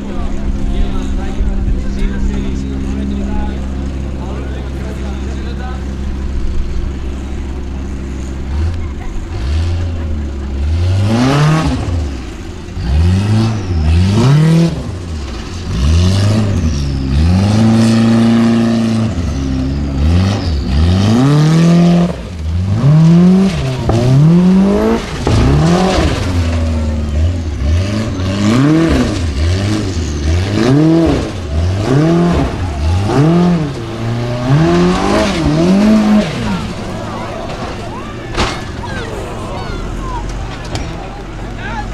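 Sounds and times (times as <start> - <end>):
buggy engine revving hard: 0.0 - 41.9.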